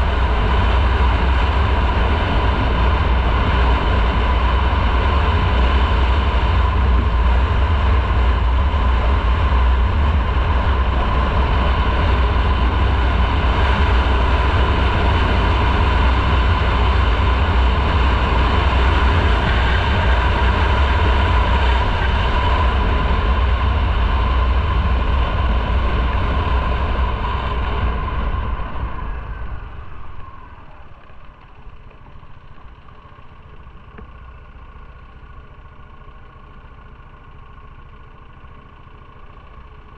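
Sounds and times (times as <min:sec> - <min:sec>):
wind rumble on microphone: 0:00.0 - 0:33.2
motorcycle engine: 0:00.0 - 0:39.9
road noise: 0:00.0 - 0:39.9.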